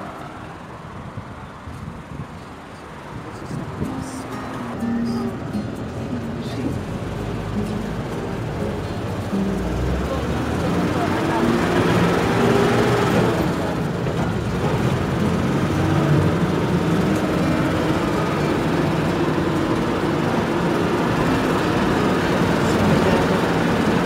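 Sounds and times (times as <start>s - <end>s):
minibus engine humming: 0.0s - 24.0s
road and wind noise: 0.0s - 24.0s.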